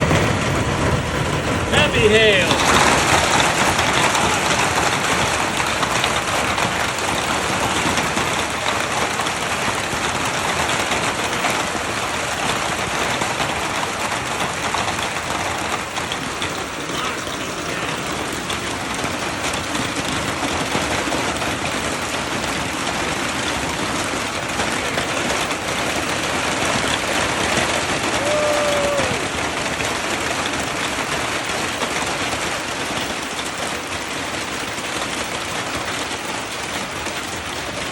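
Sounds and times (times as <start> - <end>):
heavy hail striking surfaces: 0.0 - 37.9.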